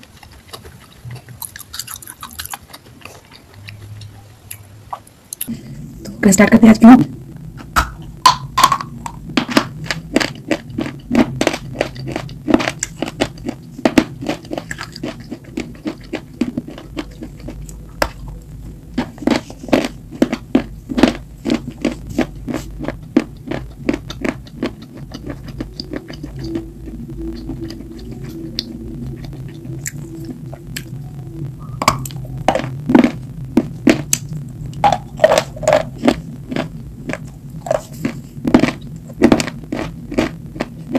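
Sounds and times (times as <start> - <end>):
crunchy chewing: 0.0 - 5.5, 8.7 - 31.1, 31.7 - 40.9.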